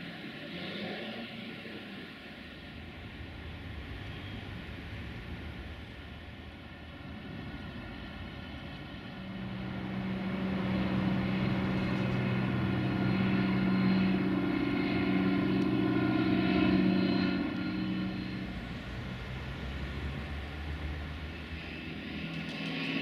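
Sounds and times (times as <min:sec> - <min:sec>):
propeller aircraft engine drone: 0:00.0 - 0:23.0.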